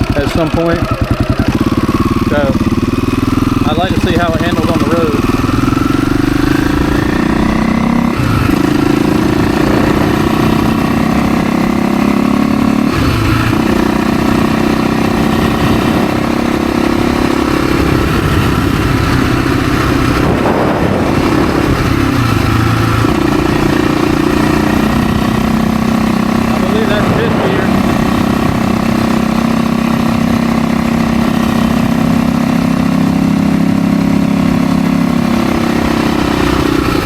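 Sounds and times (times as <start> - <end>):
dirt bike engine running: 0.0 - 37.0.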